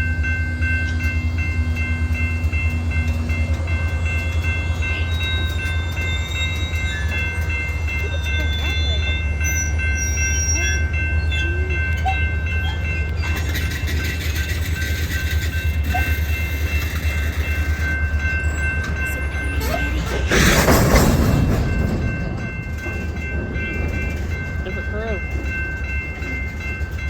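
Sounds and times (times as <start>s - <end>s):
diesel locomotive engine rumble: 0.0s - 27.0s.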